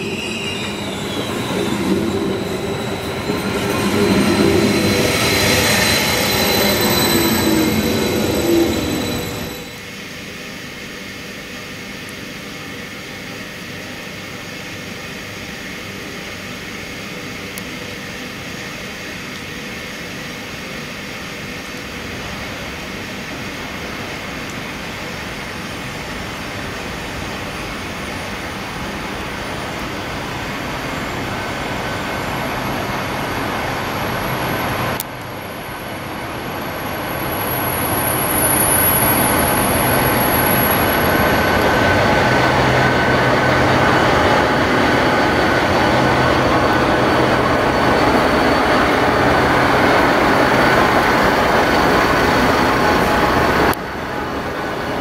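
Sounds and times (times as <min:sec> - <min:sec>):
diesel locomotive engine hum: 0:00.0 - 0:55.0.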